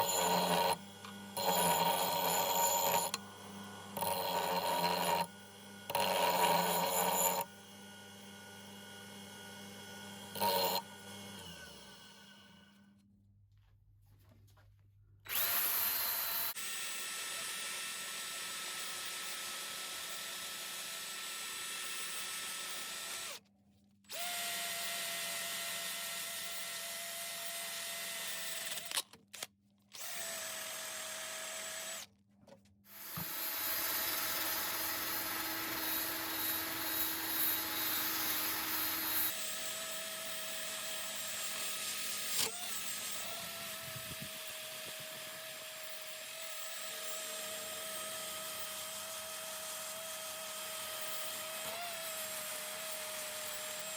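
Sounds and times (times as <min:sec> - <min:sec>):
electric power tool motor whine: 0:00.0 - 0:12.6, 0:15.3 - 0:23.4, 0:24.1 - 0:29.0, 0:32.9 - 0:53.9.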